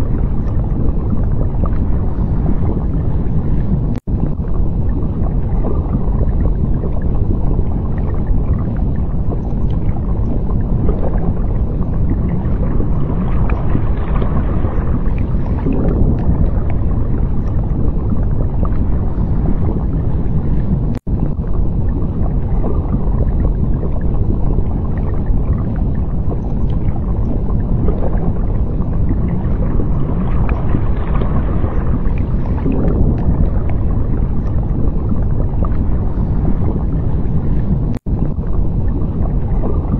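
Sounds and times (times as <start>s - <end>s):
underwater low rushing noise: 0.0s - 39.9s.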